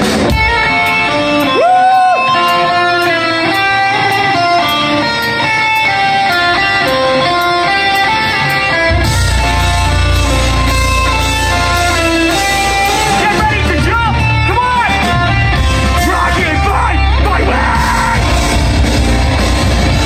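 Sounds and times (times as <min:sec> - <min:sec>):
bass and drums: 0:00.0 - 0:20.0
electric guitar picked notes: 0:00.0 - 0:20.0.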